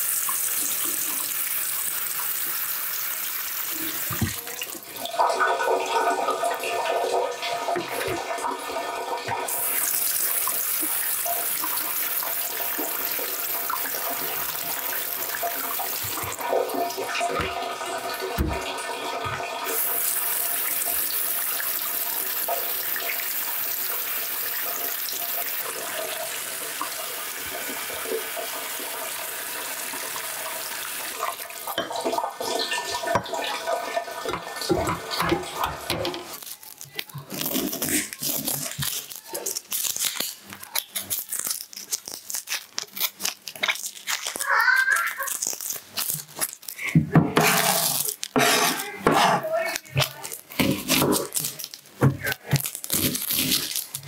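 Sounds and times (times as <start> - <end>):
tap water running into a sink: 0.0 - 39.7, 46.3 - 54.0.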